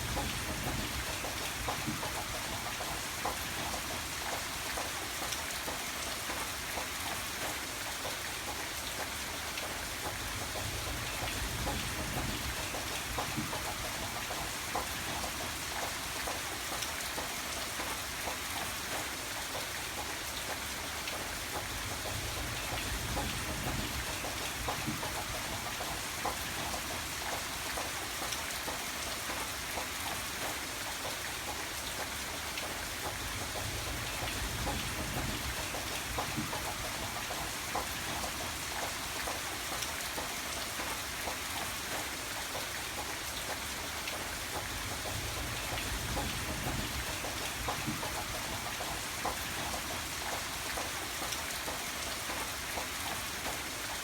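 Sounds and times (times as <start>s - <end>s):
rain drops hitting a surface: 0.0s - 54.0s.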